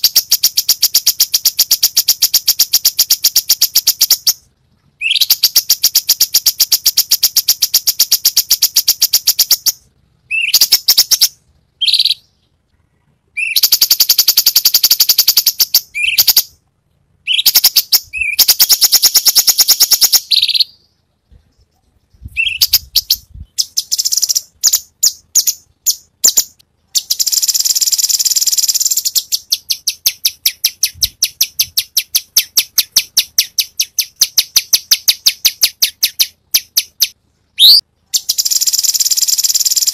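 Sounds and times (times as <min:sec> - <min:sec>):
bird singing rapid notes: 0:05.0 - 0:16.6, 0:17.2 - 0:39.9.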